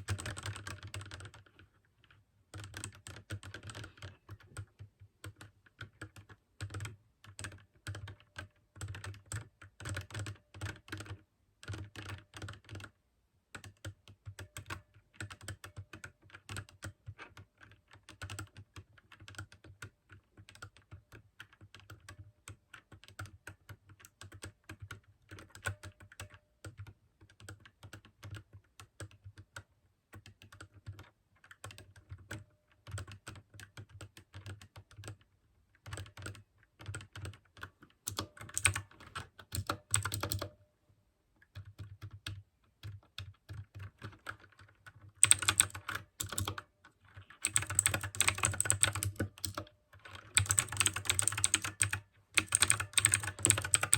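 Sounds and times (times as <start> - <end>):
clicky mechanical keyboard typing: 0.0 - 40.7, 41.4 - 53.9.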